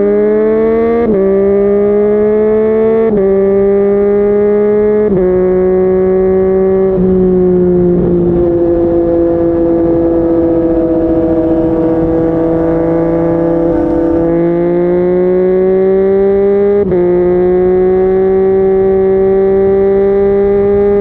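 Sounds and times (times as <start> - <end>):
motorcycle engine at speed: 0.0 - 21.0.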